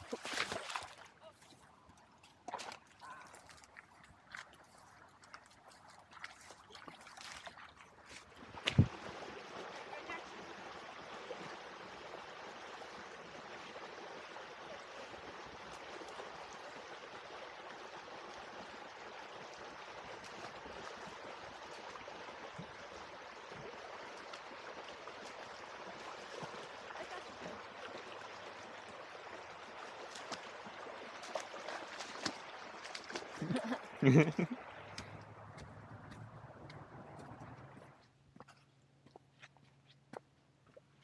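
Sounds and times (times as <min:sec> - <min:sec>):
flowing stream: 0:00.0 - 0:41.0.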